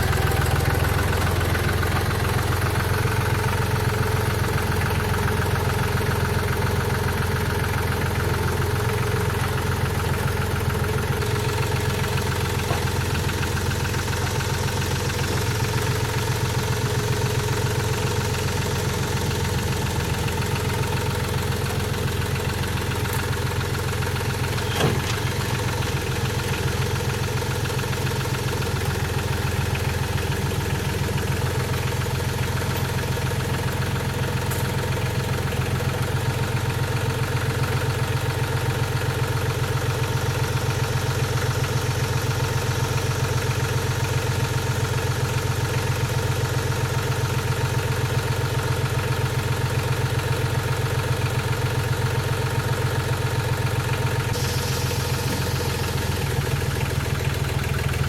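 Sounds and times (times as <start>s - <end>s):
engine idling: 0.0s - 58.0s
engine knock: 0.0s - 58.0s.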